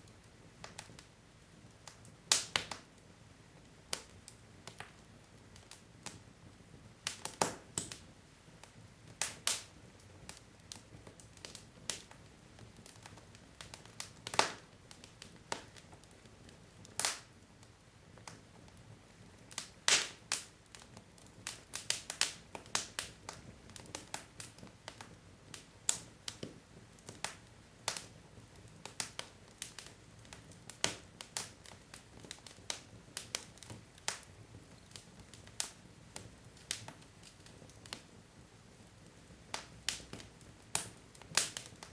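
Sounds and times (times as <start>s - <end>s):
faint low hiss: 0.0s - 41.9s
wood fire crackling: 0.0s - 41.9s.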